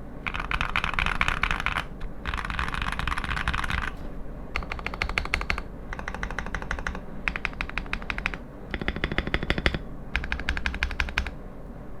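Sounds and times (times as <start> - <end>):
mechanical keyboard typing: 0.2 - 11.4.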